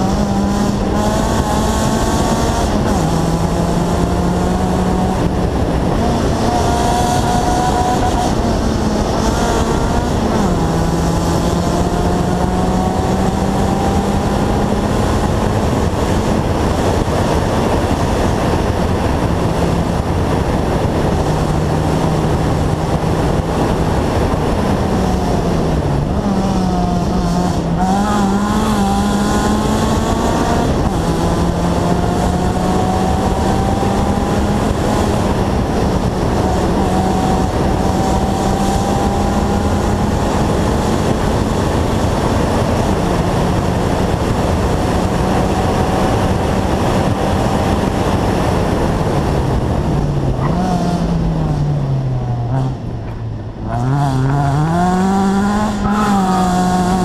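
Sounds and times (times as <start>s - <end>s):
loud steady rushing noise: 0.0s - 57.0s
rally car engine at high revs: 0.0s - 57.0s.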